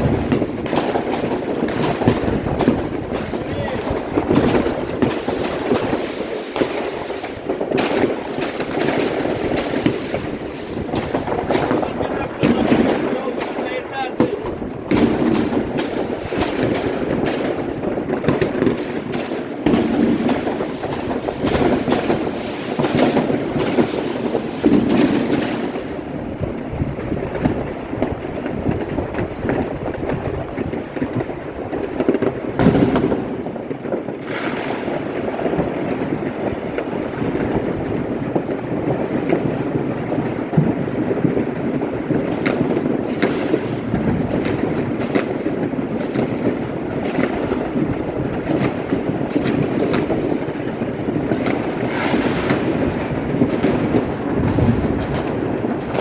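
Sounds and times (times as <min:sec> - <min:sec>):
fireworks bangs and cracks: 0:00.0 - 0:56.0
fireworks crackle and rumble: 0:00.0 - 0:56.0.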